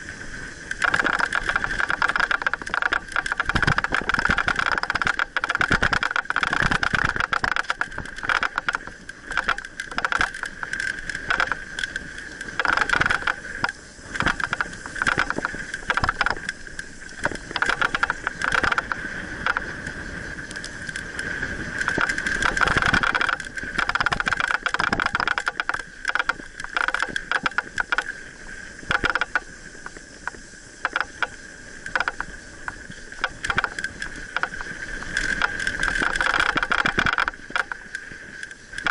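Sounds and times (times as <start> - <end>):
bike frame rattling over bumps: 0.0 - 38.9
tyre and wind noise: 0.0 - 38.9.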